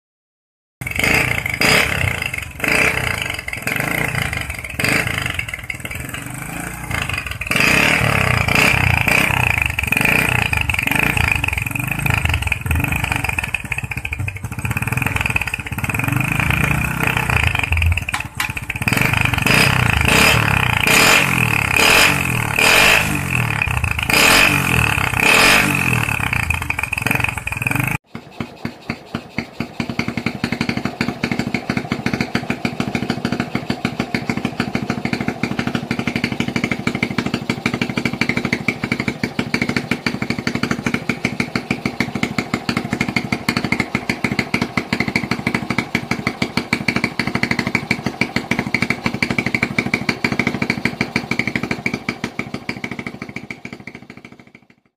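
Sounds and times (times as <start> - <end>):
motorcycle engine revving: 0.8 - 54.9.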